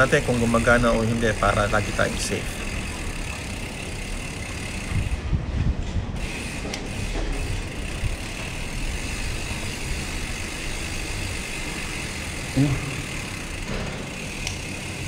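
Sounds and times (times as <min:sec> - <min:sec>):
bike freehub ticking: 0:00.0 - 0:15.0.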